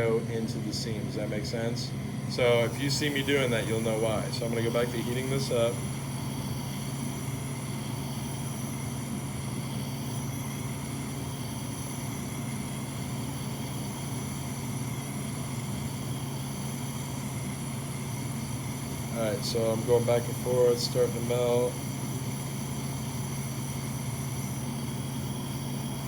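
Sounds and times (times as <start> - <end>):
gas torch burning: 0.0 - 26.0.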